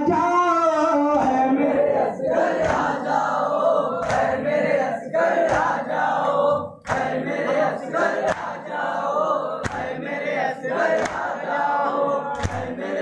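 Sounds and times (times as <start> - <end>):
sharp rhythmic beat: 0.0 - 13.0
men chanting together: 1.1 - 13.0.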